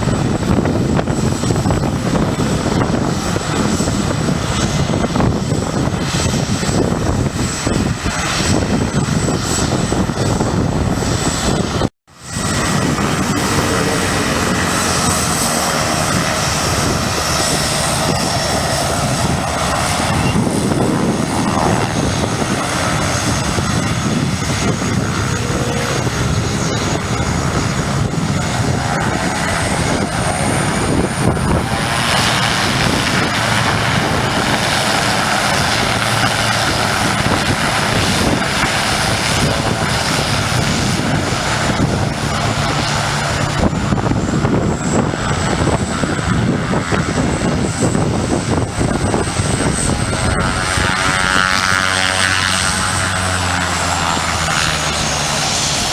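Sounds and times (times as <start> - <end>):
propeller airplane engine running: 0.0 - 55.9.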